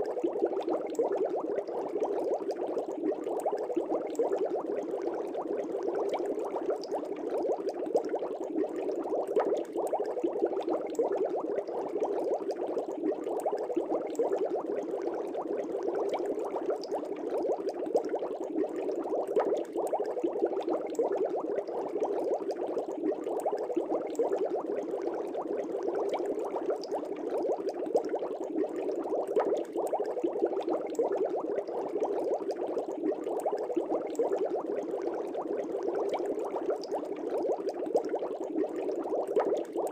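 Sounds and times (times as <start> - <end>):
aquarium air bubbles: 0.0 - 39.9.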